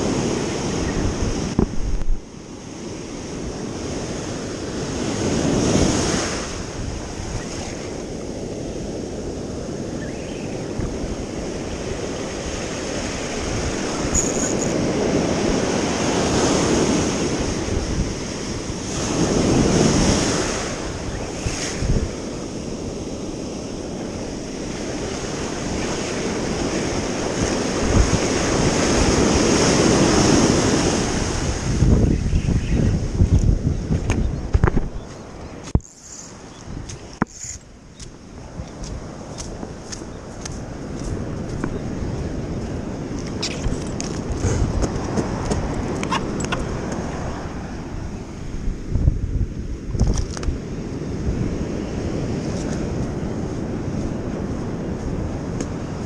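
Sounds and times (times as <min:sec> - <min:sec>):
ocean surf breaking over rocks: 0:00.0 - 0:32.2, 0:33.0 - 0:56.0
wind on microphone: 0:00.0 - 0:56.0.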